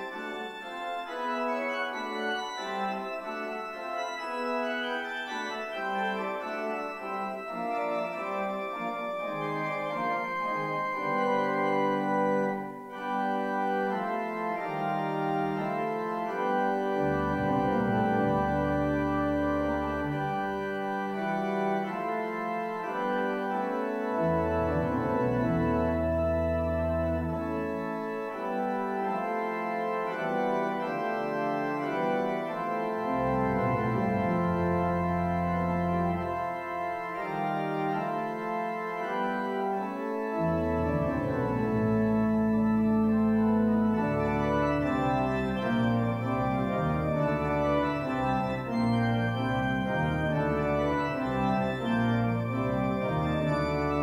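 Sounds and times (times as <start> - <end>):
organ playing held chords: 0.0 - 54.0.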